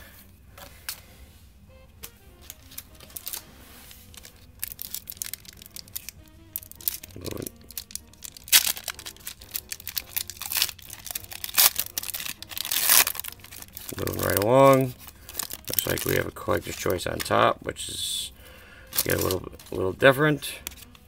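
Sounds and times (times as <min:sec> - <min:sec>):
foil wrapper tearing and crinkling: 0:02.1 - 0:17.5, 0:18.8 - 0:21.0.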